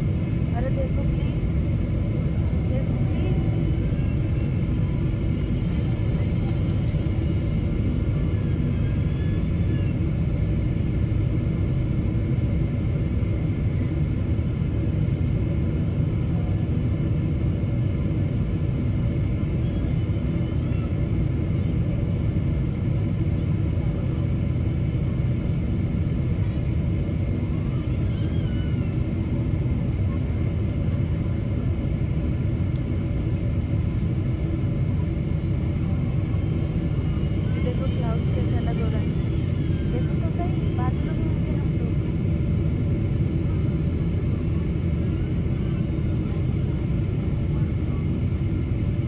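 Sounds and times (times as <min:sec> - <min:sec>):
jet cabin engine rumble: 0:00.0 - 0:49.0.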